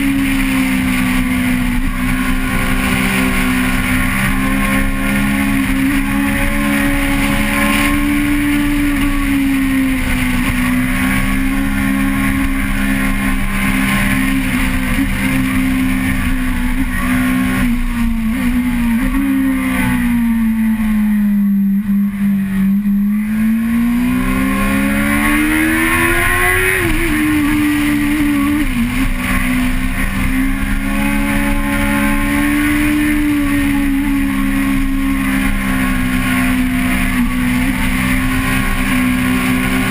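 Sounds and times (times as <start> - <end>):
vehicle engine: 0.0 - 39.9.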